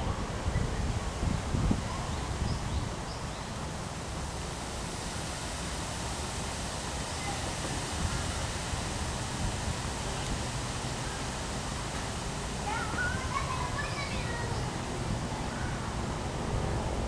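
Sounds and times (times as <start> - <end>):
strong wind through trees: 0.0 - 17.0.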